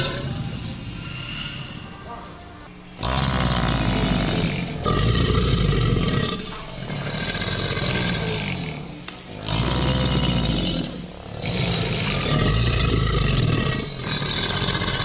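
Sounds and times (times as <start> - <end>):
large animal roaring and growling: 3.0 - 15.0.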